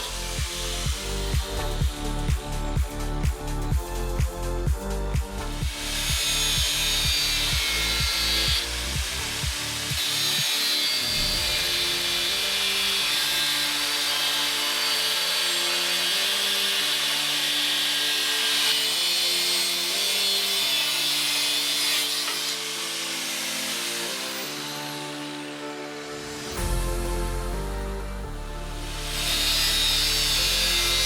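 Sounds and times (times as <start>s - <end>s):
power tool cutting steel plate: 0.0s - 27.6s, 28.6s - 31.0s
background music: 0.0s - 31.0s.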